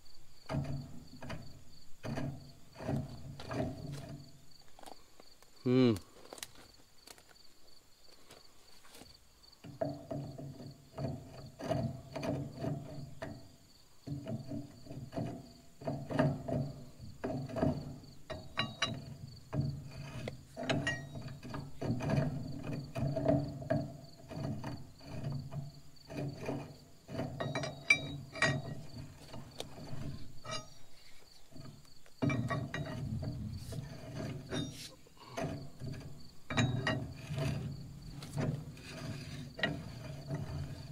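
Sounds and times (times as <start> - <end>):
crickets chirping: 0.0 - 40.9
metal creaking and squeaking: 0.4 - 4.9, 9.6 - 40.9.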